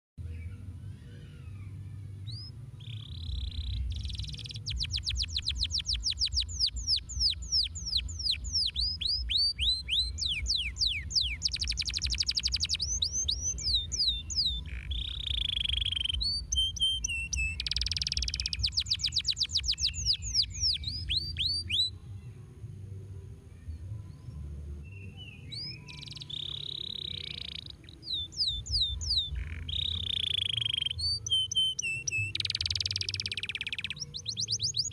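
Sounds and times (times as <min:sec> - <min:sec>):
canary singing: 0:00.2 - 0:22.0, 0:24.8 - 0:34.9.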